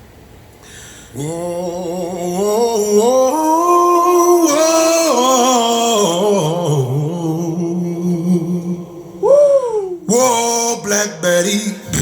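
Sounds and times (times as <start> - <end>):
man singing through speaker: 1.1 - 12.0.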